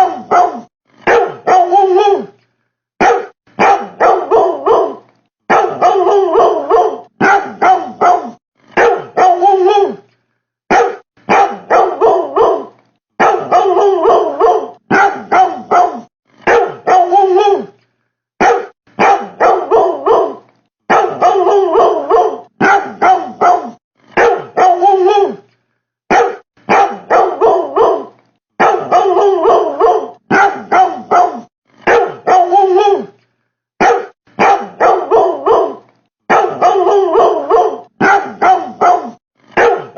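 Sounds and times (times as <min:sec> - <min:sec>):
dog barking: 0:00.0 - 0:02.3, 0:03.0 - 0:10.0, 0:10.7 - 0:17.7, 0:18.4 - 0:25.4, 0:26.1 - 0:33.1, 0:33.8 - 0:39.9.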